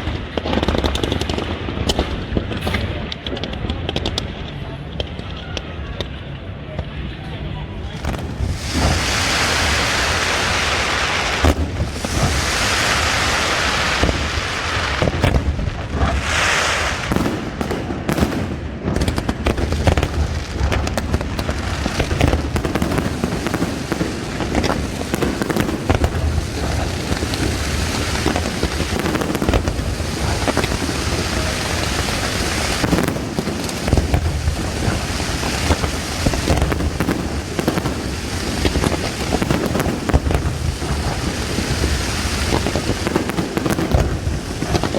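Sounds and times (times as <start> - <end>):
fireworks booming: 0.0 - 44.9
fireworks crackling: 0.0 - 44.9.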